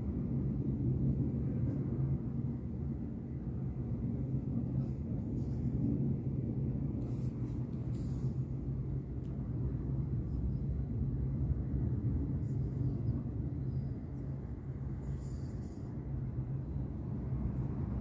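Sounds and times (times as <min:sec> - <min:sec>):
low hum and rumble: 0:00.0 - 0:18.0.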